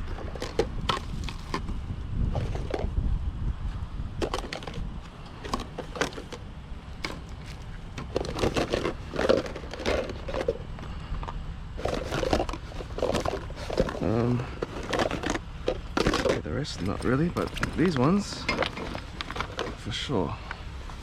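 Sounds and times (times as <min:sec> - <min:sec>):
objects clattering and rattling: 0:00.0 - 0:03.0, 0:04.2 - 0:21.0
steady low rumble: 0:00.0 - 0:21.0.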